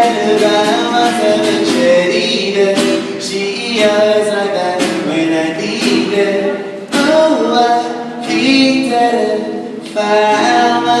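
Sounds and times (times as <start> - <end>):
song with sung vocals: 0.0 - 11.0.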